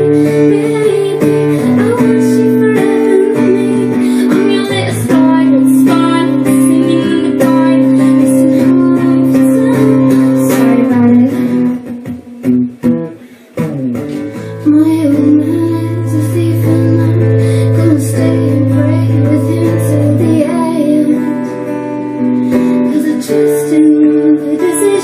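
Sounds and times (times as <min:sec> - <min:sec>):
woman singing: 0:00.0 - 0:12.5, 0:14.1 - 0:25.0
acoustic guitar strumming: 0:00.0 - 0:25.0.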